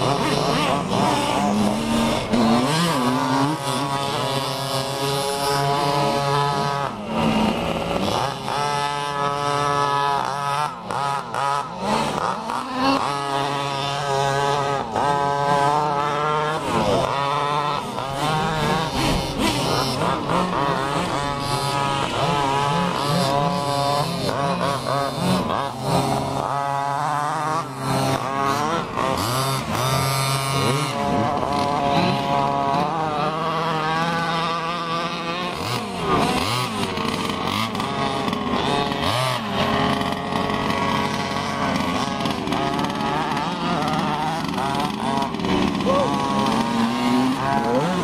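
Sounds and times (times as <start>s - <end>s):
small two-stroke engines revving: 0.0s - 48.0s.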